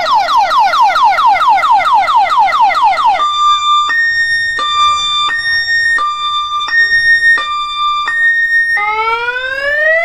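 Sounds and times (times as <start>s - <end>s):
electronic siren yelp and hi-lo: 0.0s - 10.0s.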